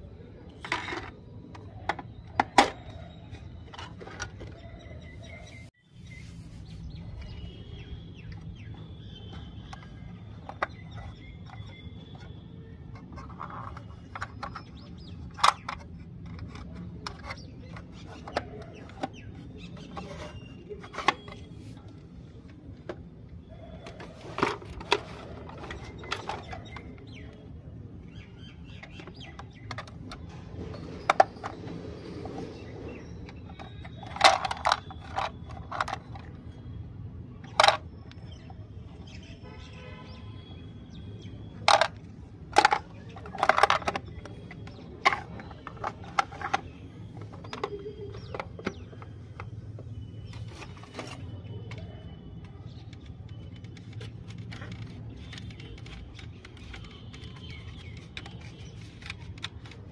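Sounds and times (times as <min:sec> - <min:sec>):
plastic toy clicks and knocks: 0:00.5 - 0:04.6, 0:08.3 - 0:21.5, 0:23.8 - 0:27.2, 0:28.5 - 0:36.6, 0:37.4 - 0:38.6, 0:41.5 - 0:59.9.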